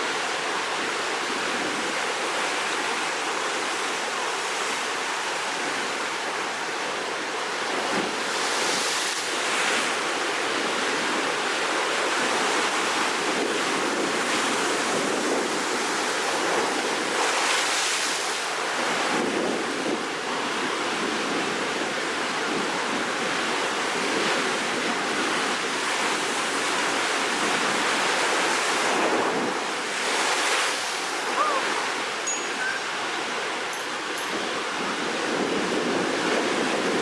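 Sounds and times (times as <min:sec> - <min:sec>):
waves breaking and crashing: 0:06.7 - 0:37.0.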